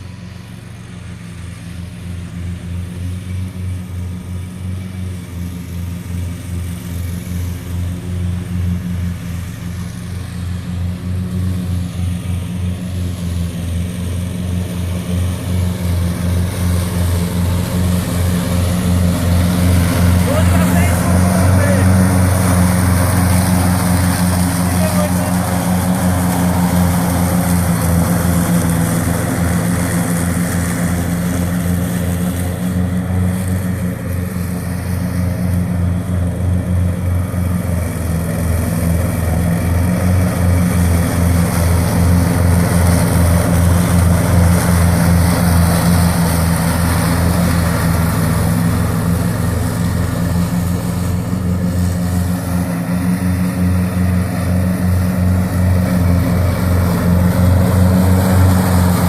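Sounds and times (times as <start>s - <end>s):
lawn tractor engine humming: 0.0s - 59.0s.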